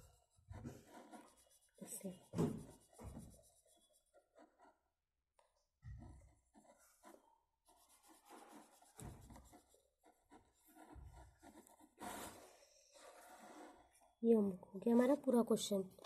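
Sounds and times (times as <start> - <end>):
pencil scratching on paper: 0.0 - 5.0, 6.0 - 14.3.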